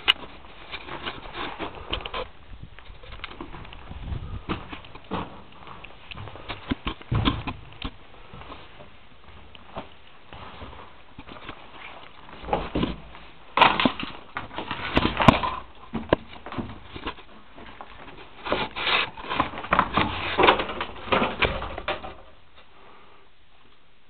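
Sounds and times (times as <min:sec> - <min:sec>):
footsteps and scrapes on rock: 0:00.0 - 0:15.4, 0:16.2 - 0:20.6.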